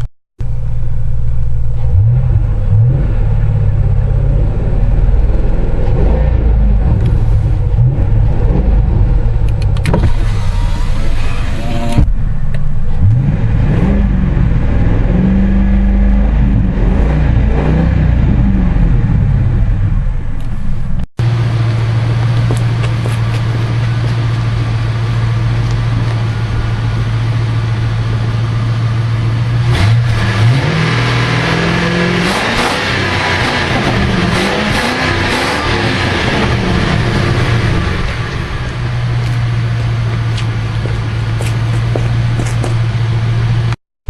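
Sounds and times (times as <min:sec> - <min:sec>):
car engine idling and revving: 0:00.0 - 0:43.8.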